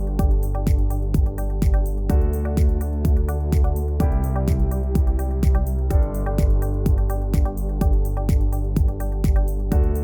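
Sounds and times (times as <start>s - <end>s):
electronic music: 0.0s - 10.0s
held bass line: 0.0s - 10.0s
hi-hats: 0.0s - 10.0s
steady kick drum: 0.0s - 10.0s.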